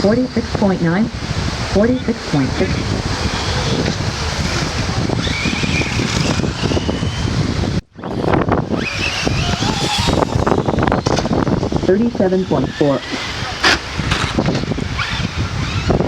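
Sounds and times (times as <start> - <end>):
wind on microphone: 0.0 - 16.0
remote-control car motors whining: 1.9 - 16.0.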